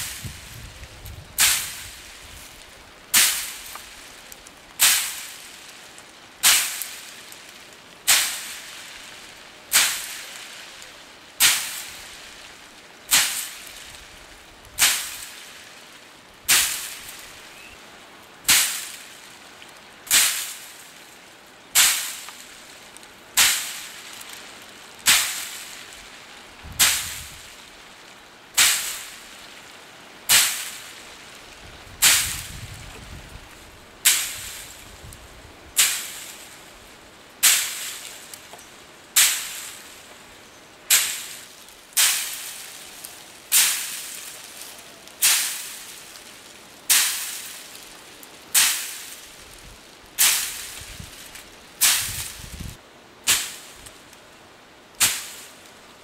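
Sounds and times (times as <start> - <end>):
stick beating dry stalks: 0.0 - 5.8, 6.4 - 15.8, 16.4 - 17.8, 18.4 - 19.3, 20.1 - 21.1, 21.8 - 27.8, 28.6 - 29.6, 30.3 - 33.3, 34.0 - 36.7, 37.4 - 54.3, 54.9 - 55.8.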